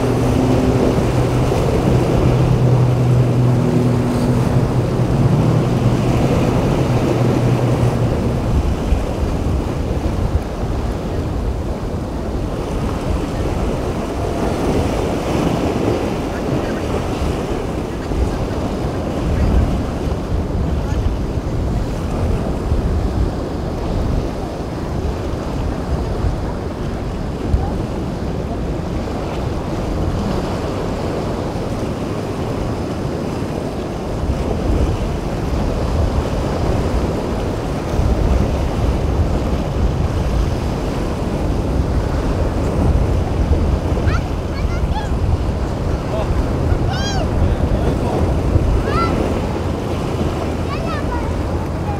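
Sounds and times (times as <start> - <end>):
waves breaking: 0.0 - 51.9
wind buffeting microphone: 0.0 - 51.9.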